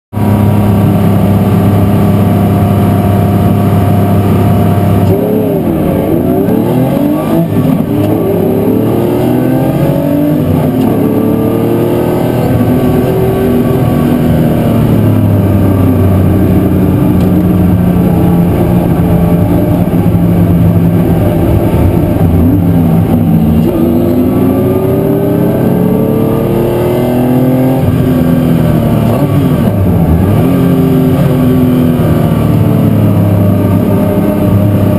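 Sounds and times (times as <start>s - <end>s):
race car engines accelerating: 0.2s - 34.9s.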